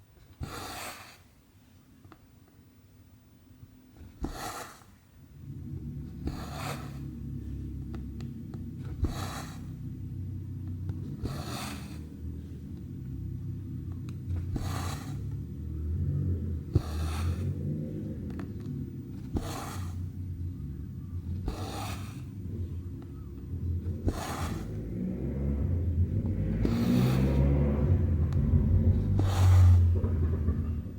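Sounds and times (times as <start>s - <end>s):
steady low rumble: 5.2s - 30.9s.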